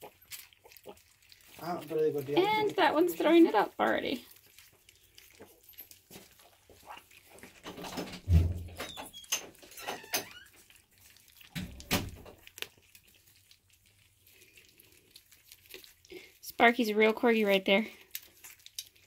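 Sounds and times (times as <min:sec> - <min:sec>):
puppies eating wet food: 0:00.0 - 0:19.0.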